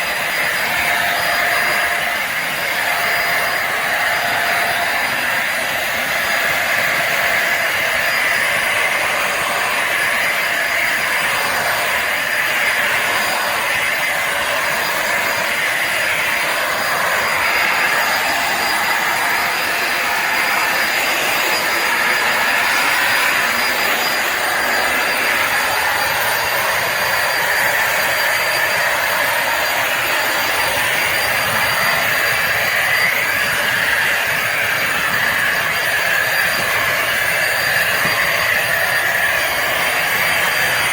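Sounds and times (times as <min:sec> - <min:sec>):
high motor whine: 0:00.0 - 0:40.9
vacuum motor whirring: 0:00.0 - 0:40.9.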